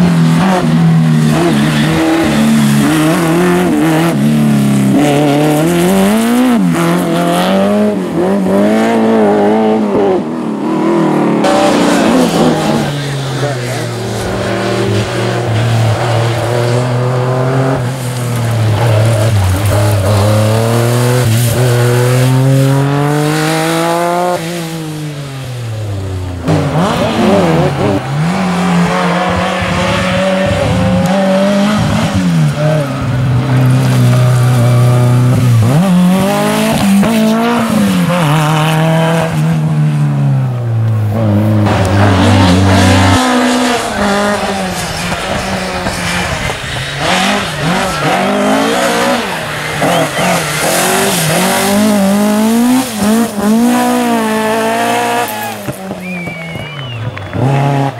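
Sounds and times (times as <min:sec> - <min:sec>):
engines revving through gear changes: 0:00.0 - 0:24.8, 0:26.2 - 0:39.7, 0:40.9 - 0:55.4
rally cars passing: 0:00.0 - 0:57.9.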